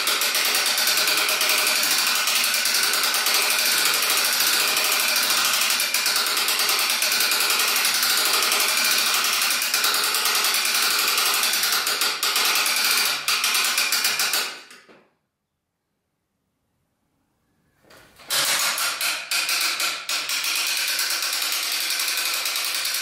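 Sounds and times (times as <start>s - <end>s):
small power tool running: 0.0s - 14.7s, 18.3s - 23.0s.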